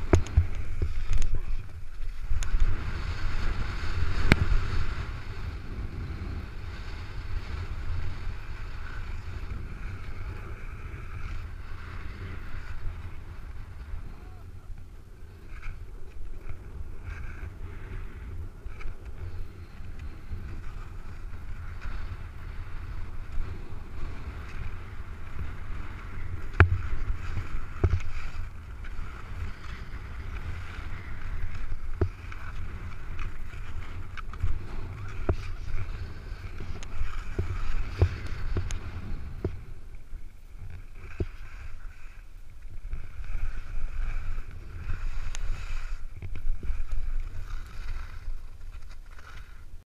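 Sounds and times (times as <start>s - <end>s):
skis clicking and knocking: 0.0s - 5.5s, 6.8s - 49.8s
skis scraping on crusty snow: 0.0s - 49.8s
wind buffeting microphone: 0.0s - 49.8s.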